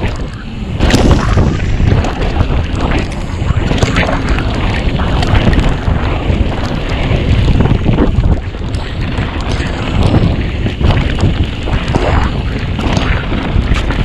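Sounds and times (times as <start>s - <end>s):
bike knocks and rattles: 0.0s - 14.0s
mountain bike rumbling on dirt: 0.0s - 14.0s
wind buffeting microphone: 0.0s - 14.0s.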